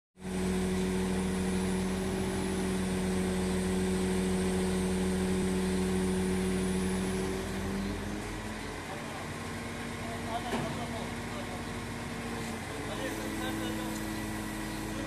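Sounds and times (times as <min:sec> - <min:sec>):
crane engine humming: 0:00.2 - 0:15.0.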